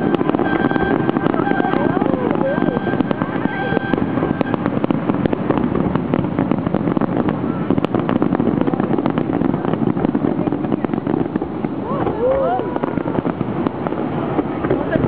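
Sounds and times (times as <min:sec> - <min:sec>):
fireworks crackling: 0:00.0 - 0:15.0
steady rumble: 0:00.0 - 0:15.0.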